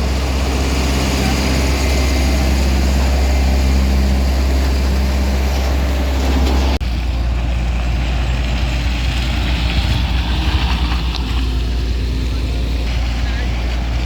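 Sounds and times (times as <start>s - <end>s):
heavy vehicle engine humming: 0.0s - 14.0s.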